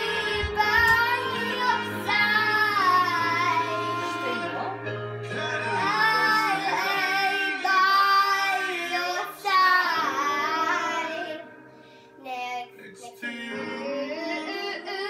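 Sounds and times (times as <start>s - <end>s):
backing music: 0.0s - 15.0s.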